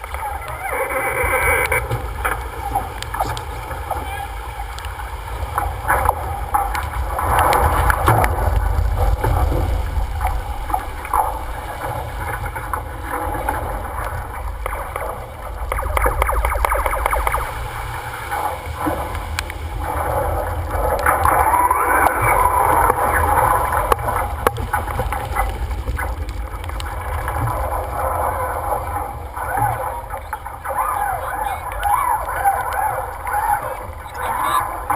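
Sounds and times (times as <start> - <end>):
water rushing along hull: 0.0 - 34.9
wind buffeting microphone: 0.0 - 34.9.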